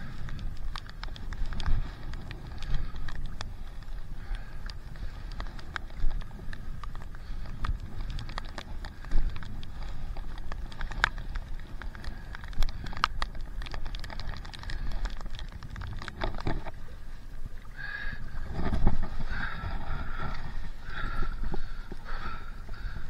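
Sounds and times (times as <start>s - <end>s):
water splashing and dripping: 0.0s - 23.0s
wind rumble on microphone: 0.0s - 23.0s.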